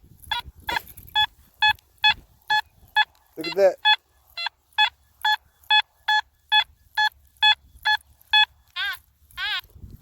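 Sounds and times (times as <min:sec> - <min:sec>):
metal detector short beeps: 0:00.2 - 0:09.7
metal detector warbling beep: 0:00.2 - 0:09.8.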